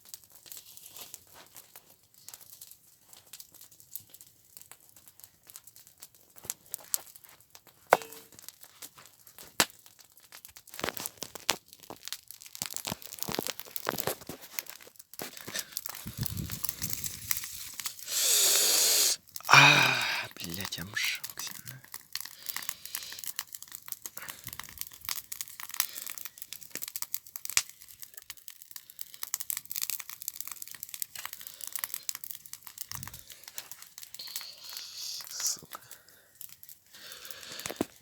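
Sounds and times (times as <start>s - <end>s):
campfire crackling and snapping: 0.0s - 38.0s.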